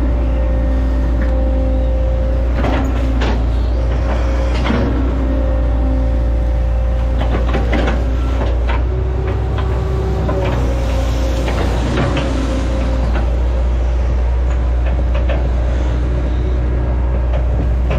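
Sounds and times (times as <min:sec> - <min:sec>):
excavator diesel engine: 0:00.0 - 0:17.9
hydraulic whine: 0:00.0 - 0:17.9.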